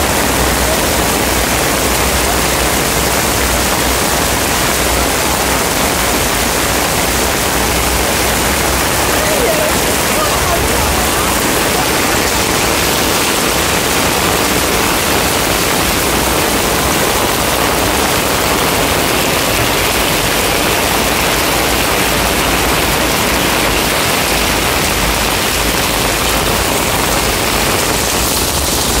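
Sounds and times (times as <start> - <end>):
heavy rain on pavement: 0.0 - 29.0.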